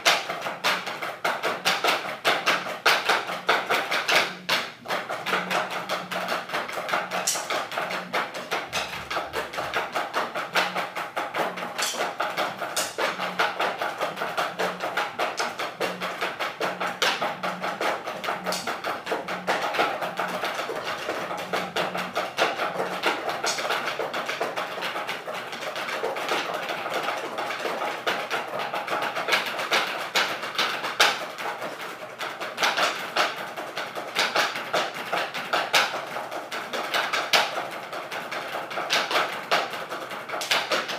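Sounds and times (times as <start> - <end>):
sticks on practice pads: 0.0 - 40.9.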